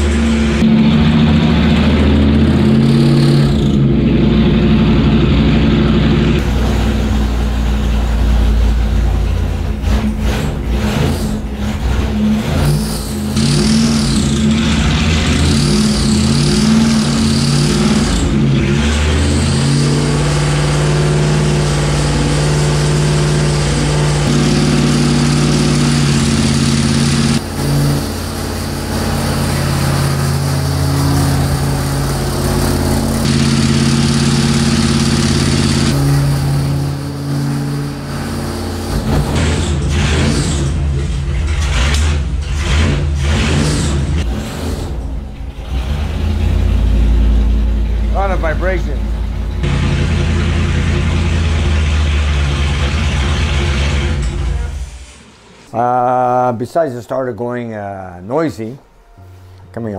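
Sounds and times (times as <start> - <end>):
engine running on dynamometer: 0.0 - 55.4.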